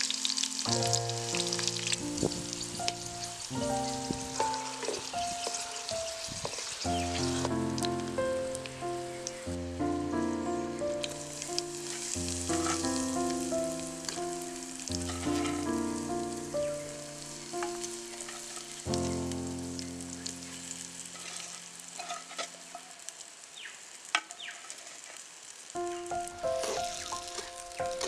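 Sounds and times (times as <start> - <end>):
melodic background music: 0.0 - 21.2, 25.8 - 28.0
food sizzling in oil: 0.0 - 28.0.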